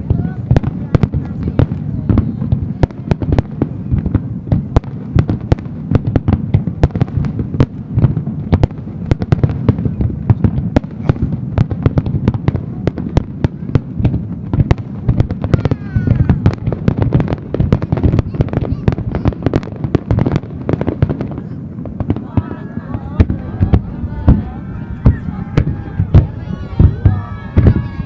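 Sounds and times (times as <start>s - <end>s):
fireworks barrage: 0.0s - 28.0s.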